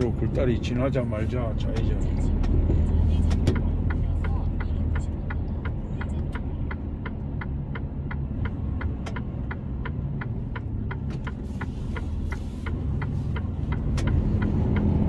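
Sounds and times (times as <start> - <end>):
road noise: 0.0 - 15.0
truck engine drone: 0.0 - 15.0
turn signal ticking: 0.0 - 15.0.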